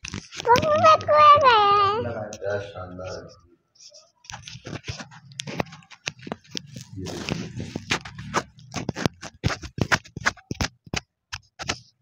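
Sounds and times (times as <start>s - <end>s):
paper crinkling and rustling: 0.0s - 1.6s, 3.0s - 12.0s.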